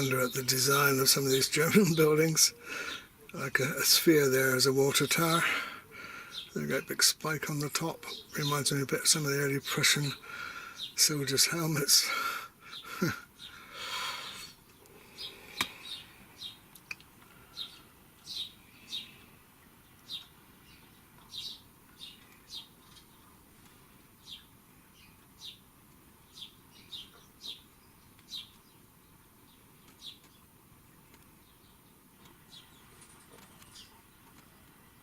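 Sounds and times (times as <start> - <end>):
low steady hiss: 0.0 - 35.0.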